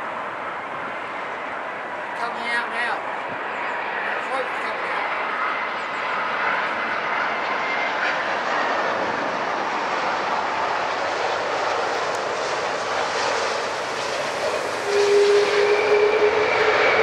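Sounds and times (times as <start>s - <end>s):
faint jet whine: 0.0s - 17.0s
jet engines roaring: 0.0s - 17.0s.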